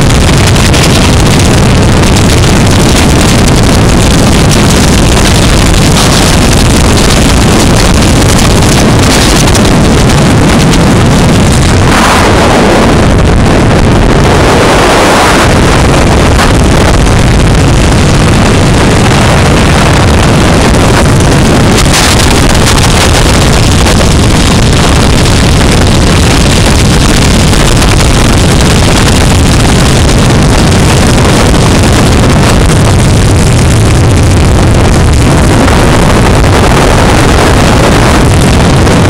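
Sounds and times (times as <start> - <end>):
motorcycle engine at speed: 0.0 - 39.0
wind buffeting on microphone: 0.0 - 39.0.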